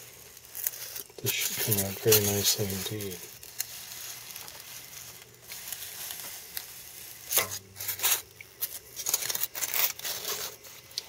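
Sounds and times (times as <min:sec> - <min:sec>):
foam crinkling: 0:00.0 - 0:11.0
hot wire sizzling through foam: 0:00.0 - 0:11.0
scratchy crunches of foam: 0:00.0 - 0:11.0.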